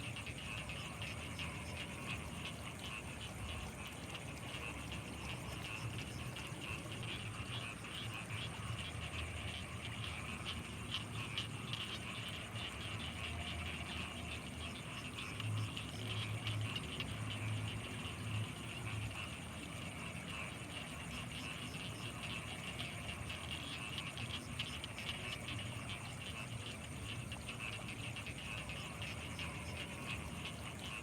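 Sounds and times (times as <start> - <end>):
frogs croaking chorus: 0.0 - 31.0.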